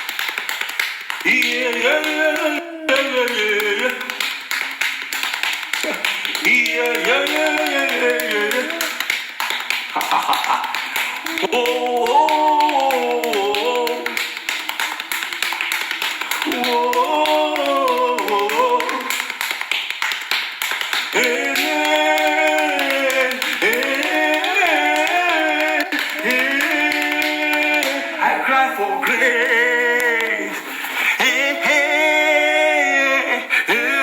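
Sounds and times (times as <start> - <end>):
rapid tapping and clapping: 0.0 - 28.4, 29.0 - 31.8
person chanting wordlessly: 1.2 - 4.8, 5.7 - 9.2, 10.0 - 19.4, 21.0 - 34.0.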